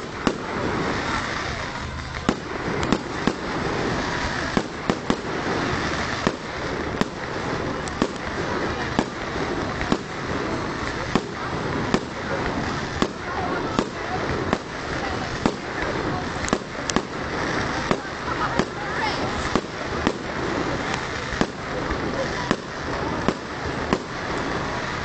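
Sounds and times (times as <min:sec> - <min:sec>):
crackling hiss of fireworks: 0:00.0 - 0:25.0.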